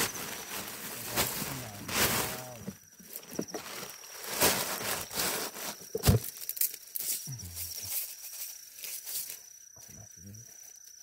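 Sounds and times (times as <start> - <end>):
camping gear rustling and knocking: 0.0 - 9.4
insect's thin high call: 0.0 - 11.0.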